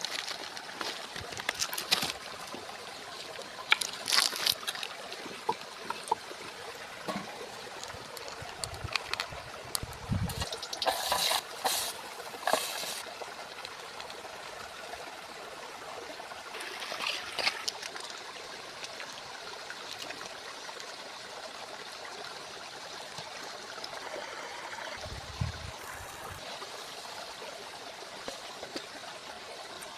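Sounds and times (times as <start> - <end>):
river water flowing over stones: 0.0 - 29.9.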